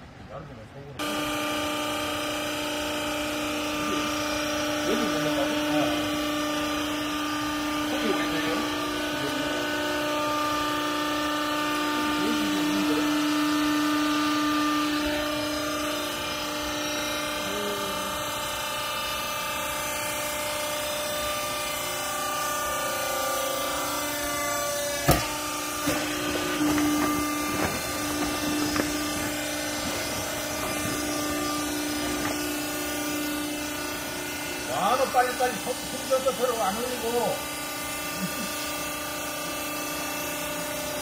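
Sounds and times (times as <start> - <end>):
hydraulic power unit humming: 0.0 - 41.0.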